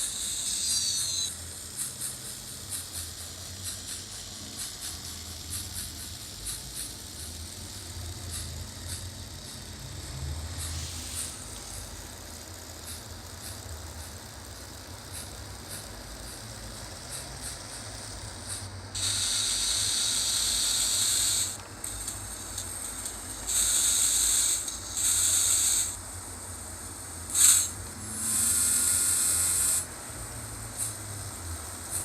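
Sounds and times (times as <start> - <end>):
model locomotive steam hiss: 0.0 - 32.0.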